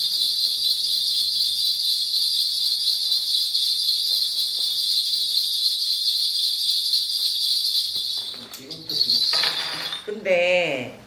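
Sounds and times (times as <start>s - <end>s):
steady high-pitched hiss: 0.0s - 10.1s.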